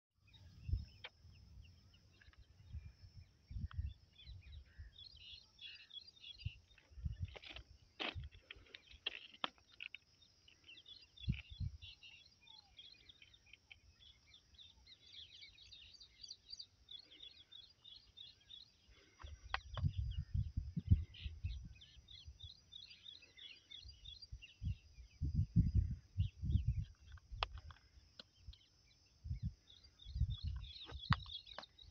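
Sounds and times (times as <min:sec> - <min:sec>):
small birds chirping: 0:00.2 - 0:31.9.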